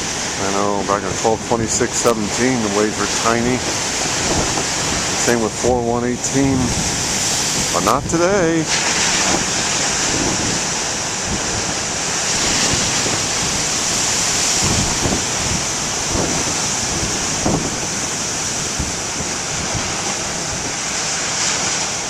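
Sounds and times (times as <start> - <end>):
ocean waves breaking: 0.0 - 22.0
wind buffeting microphone: 0.0 - 22.0.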